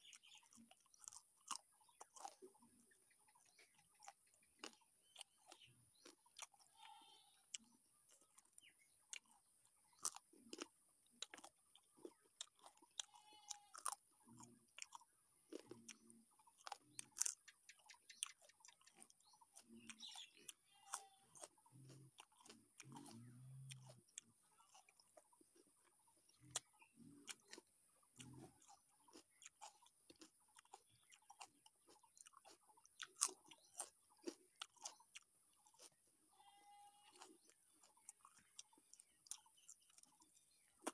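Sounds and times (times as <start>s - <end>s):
chewing and crunching: 0.0s - 40.9s.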